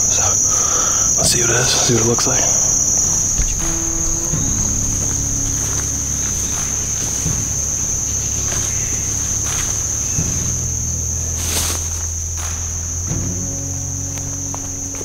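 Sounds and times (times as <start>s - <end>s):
insect chorus drone: 0.0s - 15.0s
footsteps through leaf litter: 1.4s - 15.0s.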